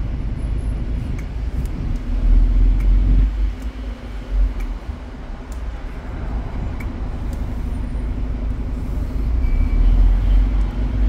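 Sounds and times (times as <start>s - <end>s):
bus rumbling in traffic: 0.0s - 11.0s.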